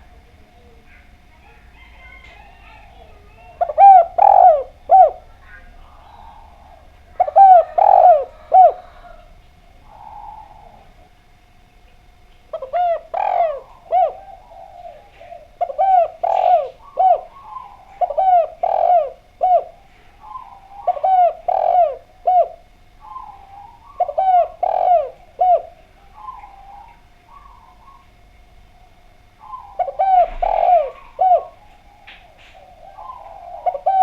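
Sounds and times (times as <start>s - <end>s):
dove cooing: 0.0s - 34.0s
faint steady hum: 0.0s - 34.0s.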